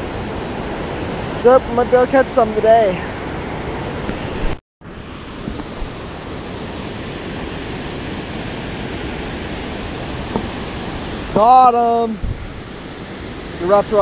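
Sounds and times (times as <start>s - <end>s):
river water roaring: 0.0s - 14.0s.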